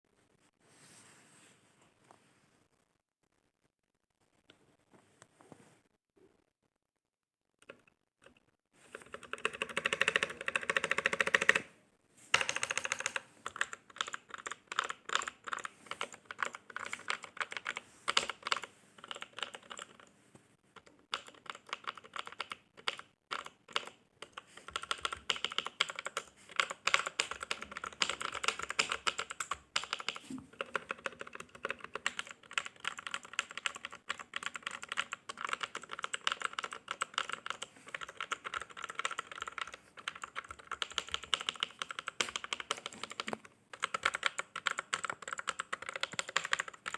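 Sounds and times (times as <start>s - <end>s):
mechanical keyboard typing: 7.6s - 11.7s, 12.3s - 20.1s, 20.8s - 46.9s.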